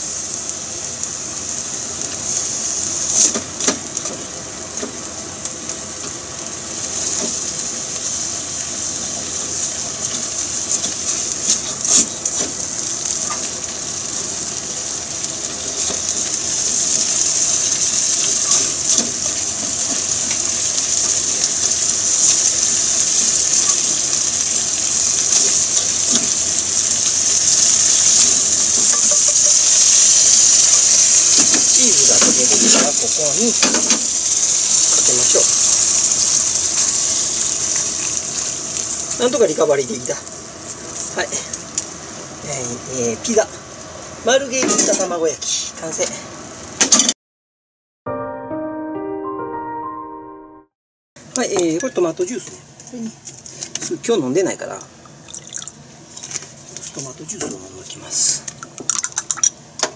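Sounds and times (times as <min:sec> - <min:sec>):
cheese sizzling in a frying pan: 0:00.0 - 0:46.0, 0:51.4 - 0:59.9.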